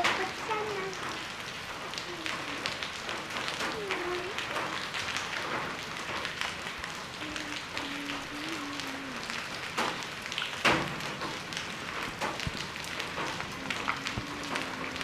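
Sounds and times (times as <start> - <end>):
hailstones ticking: 0.0 - 15.0
heavy rain pattering: 0.0 - 15.0.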